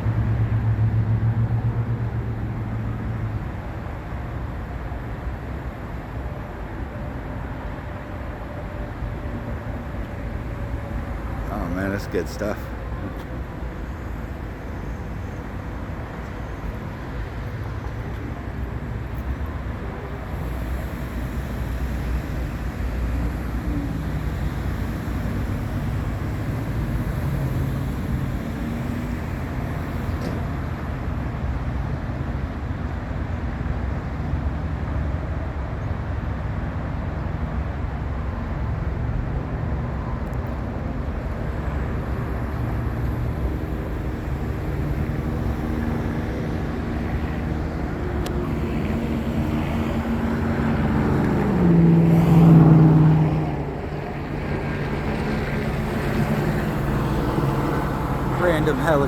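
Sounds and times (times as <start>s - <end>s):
freeway traffic rumble: 0.0s - 59.0s.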